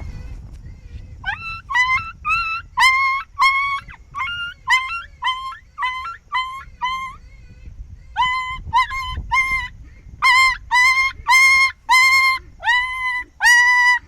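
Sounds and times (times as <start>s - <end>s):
sharp high yelps: 1.2s - 7.2s, 8.2s - 14.0s.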